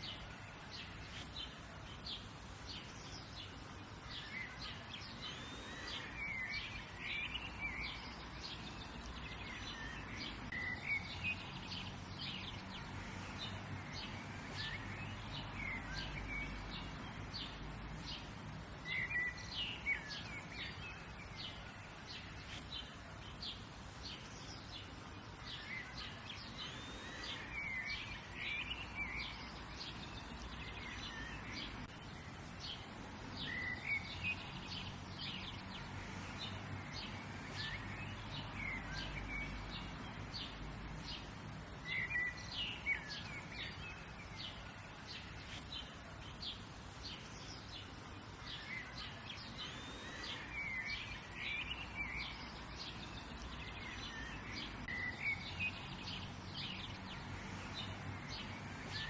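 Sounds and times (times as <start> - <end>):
outdoor background hiss: 0.0 - 59.0
songbirds chirping and singing: 0.0 - 59.0.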